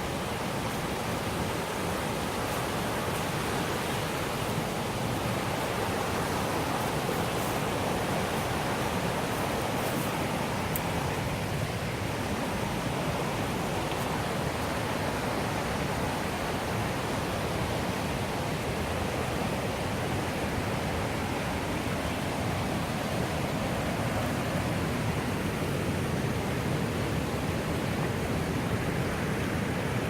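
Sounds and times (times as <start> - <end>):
river water flowing over rocks: 0.0 - 30.0.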